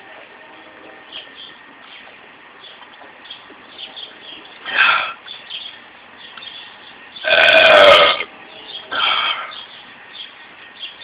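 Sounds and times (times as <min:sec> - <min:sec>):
small birds chirping: 0:01.0 - 0:07.6, 0:08.4 - 0:11.0.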